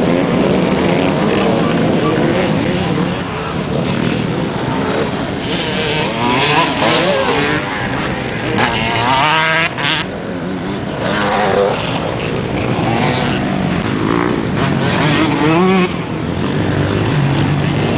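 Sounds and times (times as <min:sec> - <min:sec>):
motorcycle engines revving: 0:00.0 - 0:17.9.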